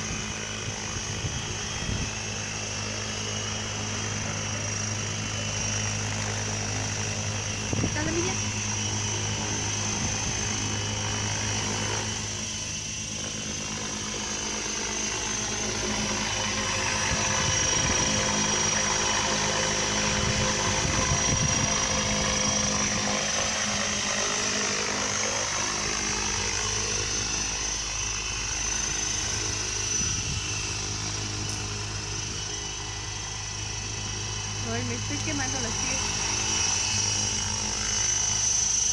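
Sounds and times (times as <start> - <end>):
helicopter rotor blades whirring: 0.0 - 38.9
high electric motor whine: 0.0 - 38.9.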